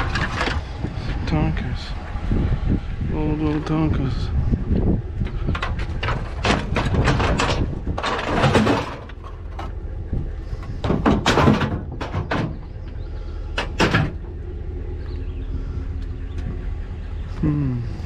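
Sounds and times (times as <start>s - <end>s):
clunks knocks and scraping: 0.0s - 17.4s
low steady rumble: 0.0s - 18.0s.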